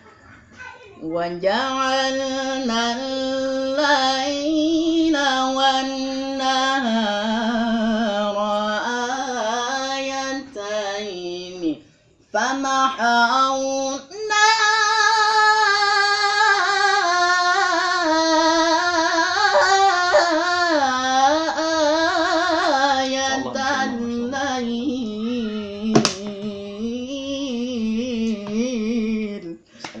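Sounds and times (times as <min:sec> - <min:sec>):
person reciting melodically: 0:01.0 - 0:30.0.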